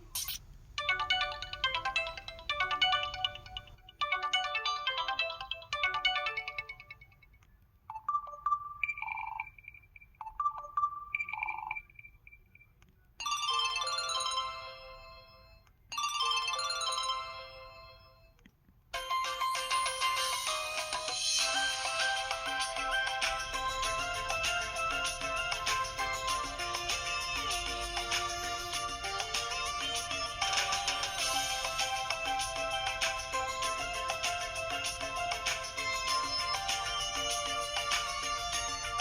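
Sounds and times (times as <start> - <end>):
chiming electronic ringtone melody: 0.8 - 18.4, 19.0 - 39.0.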